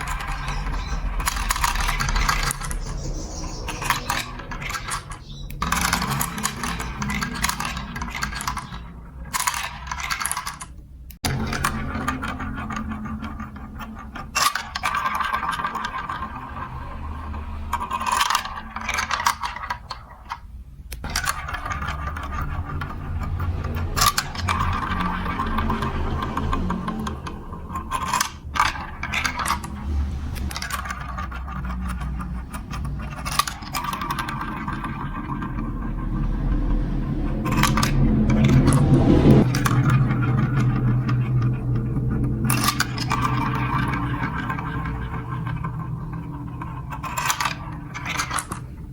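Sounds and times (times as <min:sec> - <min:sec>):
marbles clinking and rattling: 0:00.0 - 0:48.9
marbles rolling on plastic tracks: 0:00.0 - 0:48.9.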